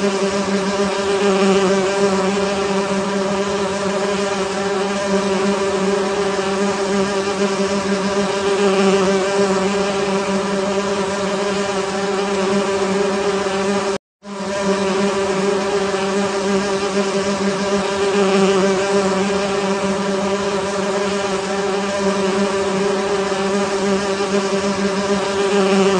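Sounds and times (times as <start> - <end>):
bees buzzing: 0.0 - 25.9.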